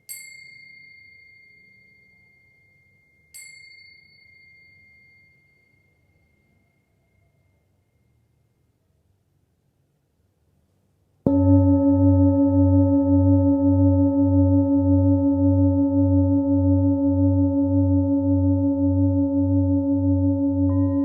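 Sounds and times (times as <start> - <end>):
singing bowl ringing: 0.0 - 8.5, 11.3 - 21.0.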